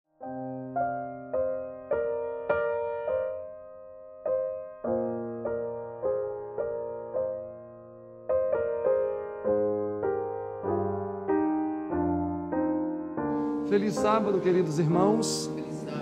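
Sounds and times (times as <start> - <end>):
slow solo piano: 0.1 - 16.0.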